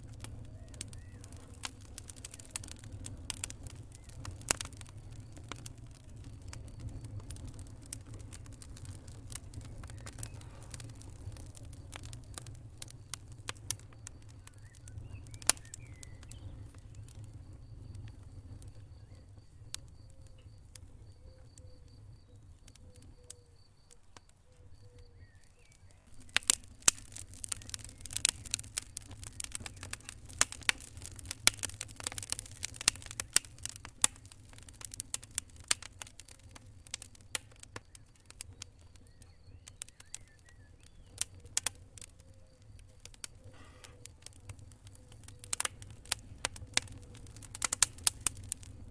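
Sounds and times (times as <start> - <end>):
fire crackling and popping: 0.0 - 48.9
fire flames rumbling: 0.0 - 48.9.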